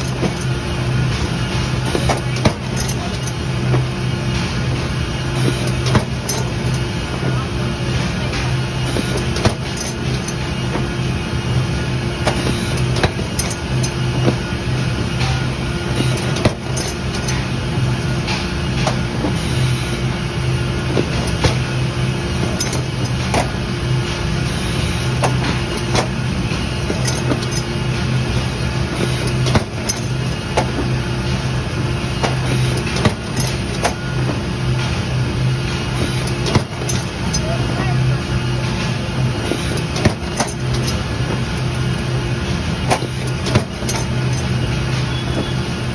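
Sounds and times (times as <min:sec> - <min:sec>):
machinery clicks and knocks: 0:00.0 - 0:11.0, 0:12.1 - 0:20.2, 0:20.8 - 0:37.8, 0:38.6 - 0:45.7
machinery humming: 0:00.0 - 0:45.9.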